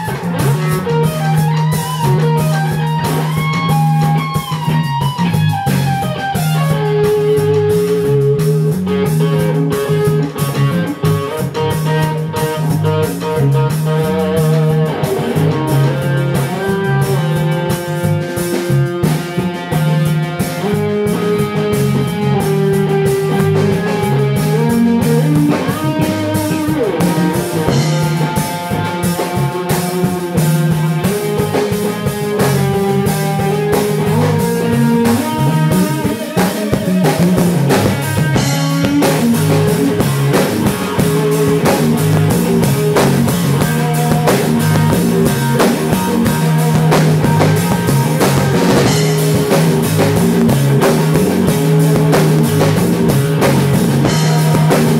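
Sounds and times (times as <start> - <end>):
drum kit: 0.0 - 54.9
electric bass: 0.0 - 54.9
electric guitar: 0.0 - 54.9.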